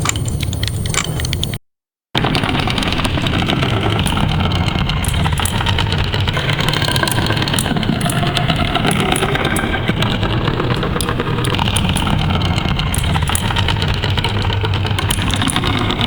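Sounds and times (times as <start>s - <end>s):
rough rumbling engine-like noise: 2.2s - 16.0s.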